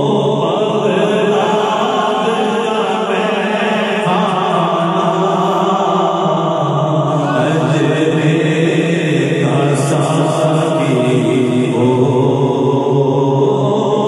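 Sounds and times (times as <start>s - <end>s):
man chanting devotional song: 0.0s - 14.0s.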